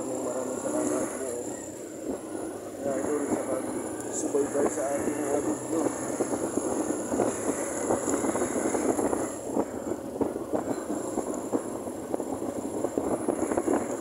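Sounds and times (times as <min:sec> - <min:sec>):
small motorcycle engine running: 0:00.0 - 0:14.0
wind and road noise: 0:00.0 - 0:14.0.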